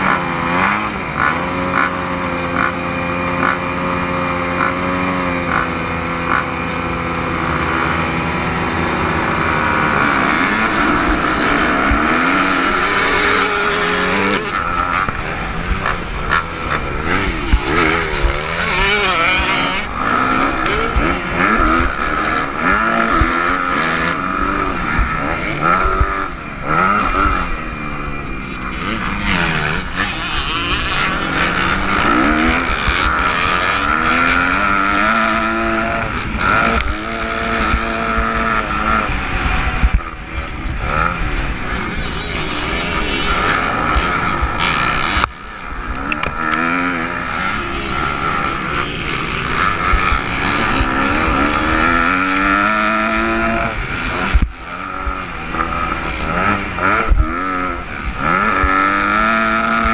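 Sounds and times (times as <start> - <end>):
motocross bike accelerating: 0.0 - 59.9
motocross bikes revving: 0.0 - 59.9.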